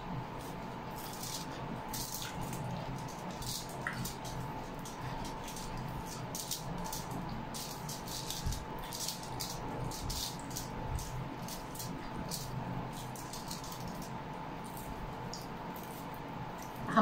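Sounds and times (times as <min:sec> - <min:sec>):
faint steady hum: 0:00.0 - 0:17.0
chewing crisp food: 0:00.4 - 0:16.9.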